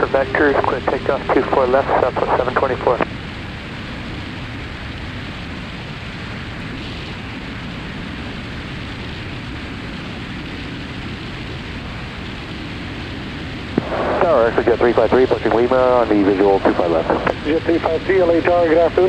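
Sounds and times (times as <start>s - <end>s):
small plane engine and propeller drone: 0.0s - 19.0s.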